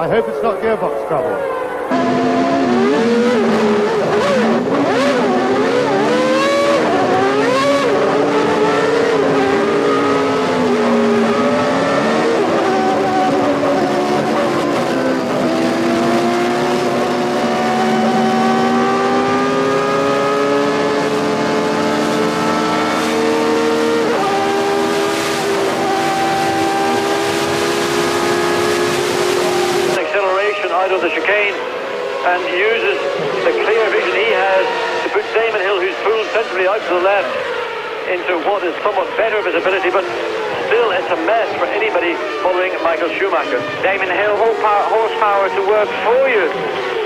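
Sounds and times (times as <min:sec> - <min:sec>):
racing car engines shifting gears: 0:00.3 - 0:47.0.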